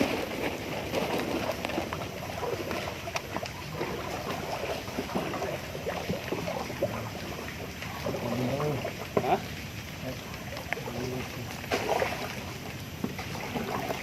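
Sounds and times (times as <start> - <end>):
river water lapping and trickling: 0.0 - 14.0
small sharp knocks and splashes: 0.0 - 14.0.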